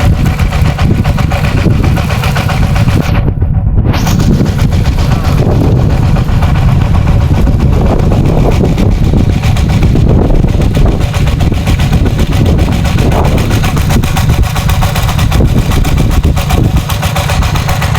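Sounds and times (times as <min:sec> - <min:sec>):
water pump engine running: 0:00.0 - 0:17.9.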